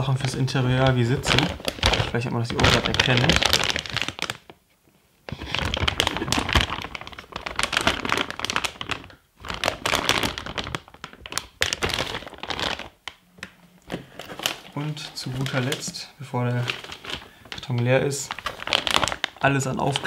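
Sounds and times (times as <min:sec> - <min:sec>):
plastic bags crinkling: 0:00.0 - 0:04.6, 0:05.3 - 0:20.0.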